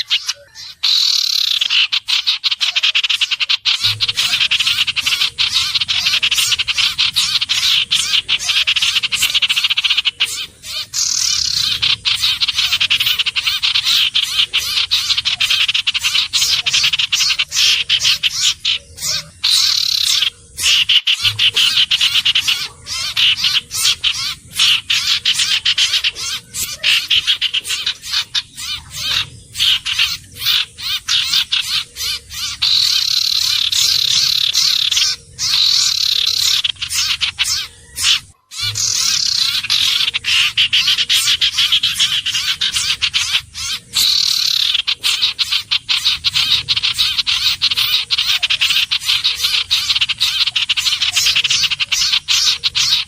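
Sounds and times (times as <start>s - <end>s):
bird chattering trill: 0.0s - 53.0s.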